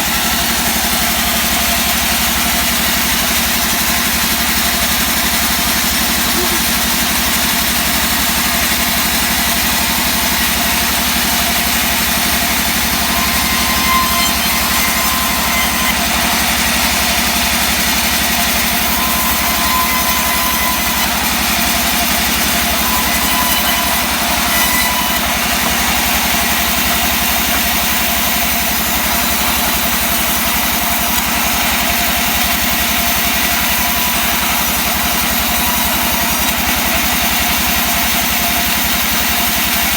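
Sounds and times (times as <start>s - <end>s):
engine-driven saw cutting wood: 0.0s - 39.9s.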